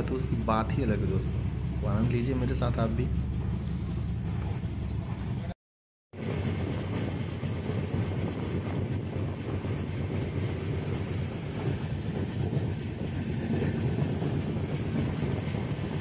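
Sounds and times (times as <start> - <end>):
train wheels rumbling on track: 0.0 - 5.6, 6.2 - 16.0
wind buffeting microphone: 0.0 - 5.6, 6.2 - 16.0.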